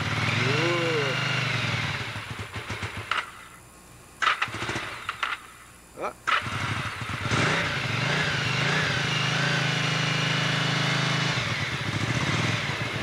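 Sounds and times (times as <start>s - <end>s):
motorcycle engine running: 0.0s - 3.6s, 4.2s - 5.6s, 6.3s - 13.0s.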